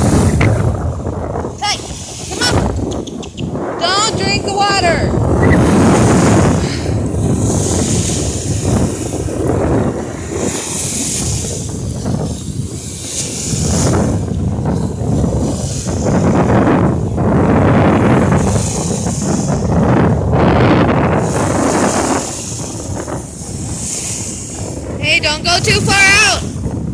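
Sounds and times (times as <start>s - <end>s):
surf washing onto beach: 0.0s - 26.9s
wind buffeting microphone: 0.0s - 26.9s.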